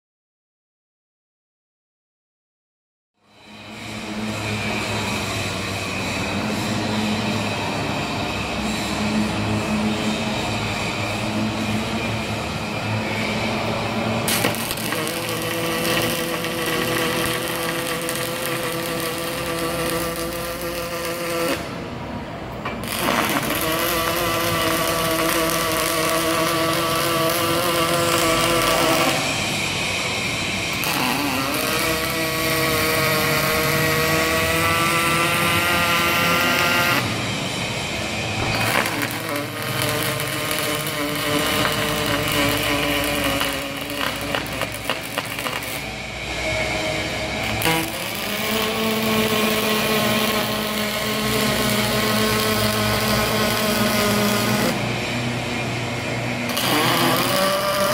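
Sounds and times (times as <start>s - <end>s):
welding arc buzzing and hissing: 3.3s - 57.9s.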